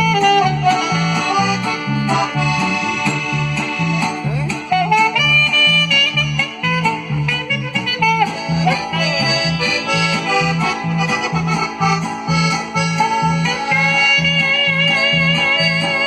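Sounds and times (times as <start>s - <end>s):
accordion melody: 0.0s - 16.0s
steady bass pulse: 0.0s - 16.0s.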